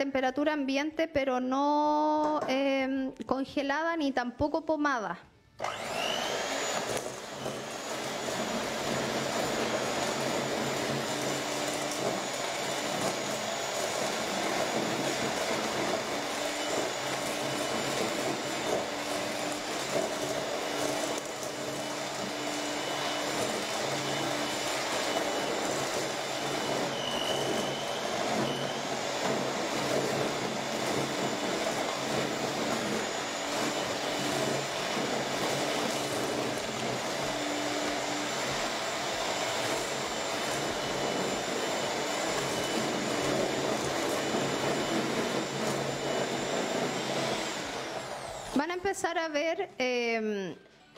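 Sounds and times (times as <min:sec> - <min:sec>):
electric hand mixer running: 0:05.6 - 0:48.9.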